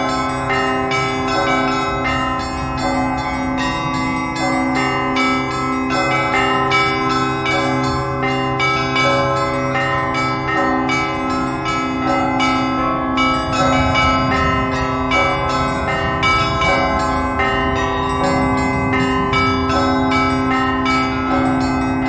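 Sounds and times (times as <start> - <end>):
large low bells ringing: 0.0 - 22.0
small church bells ringing quickly: 0.0 - 22.0.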